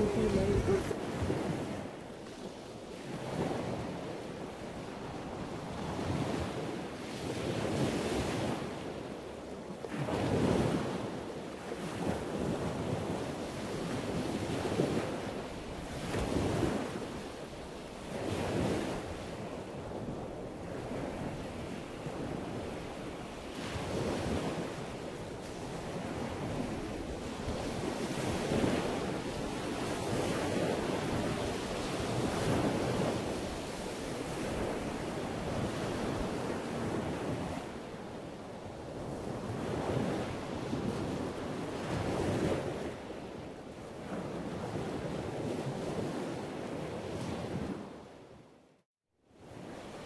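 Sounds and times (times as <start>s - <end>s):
wind gusting over microphone: 0.0s - 8.9s, 9.9s - 48.1s.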